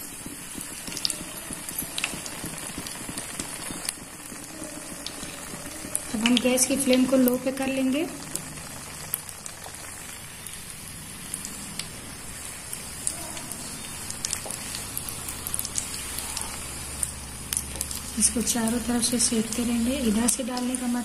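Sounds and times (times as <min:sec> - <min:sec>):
deep-frying in hot oil sizzle: 0:00.0 - 0:21.0.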